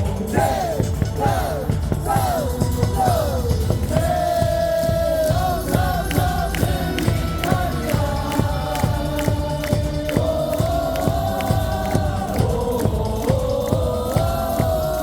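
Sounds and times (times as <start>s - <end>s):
cheer song over loudspeakers: 0.0s - 15.0s
crowd singing along: 0.0s - 15.0s.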